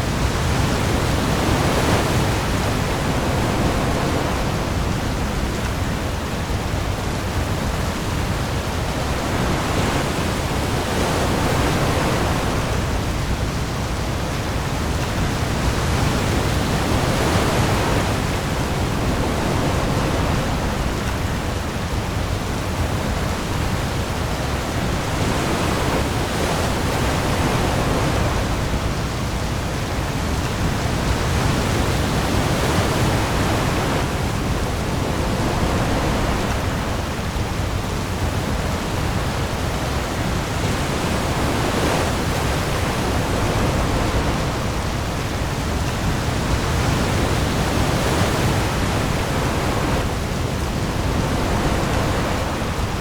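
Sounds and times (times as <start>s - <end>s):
heavy rain pouring on sea: 0.0s - 53.0s
waves: 0.0s - 53.0s.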